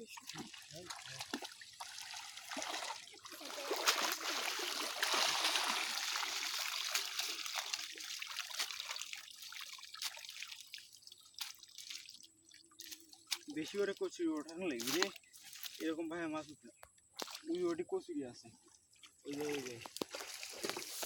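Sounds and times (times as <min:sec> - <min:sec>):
water drips: 0:00.0 - 0:15.9, 0:18.6 - 0:21.0
water splashing and trickling: 0:00.0 - 0:21.0.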